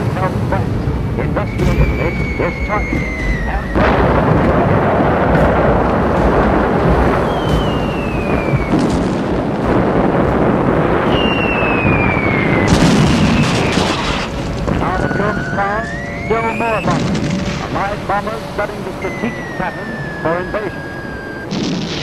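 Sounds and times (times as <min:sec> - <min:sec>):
rumble of explosions: 0:00.0 - 0:22.0
falling bomb whistles: 0:01.4 - 0:05.6, 0:06.9 - 0:09.3, 0:10.9 - 0:22.0
sharp blast: 0:01.4 - 0:22.0.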